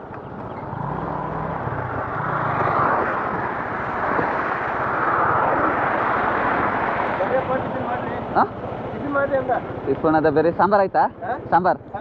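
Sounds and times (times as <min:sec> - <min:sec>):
highway traffic noise: 0:00.0 - 0:12.0.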